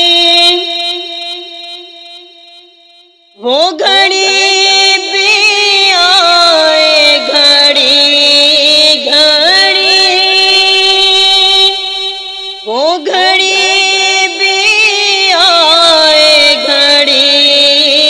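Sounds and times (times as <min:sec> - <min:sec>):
person singing long held notes: 0:00.0 - 0:01.6, 0:03.4 - 0:18.0.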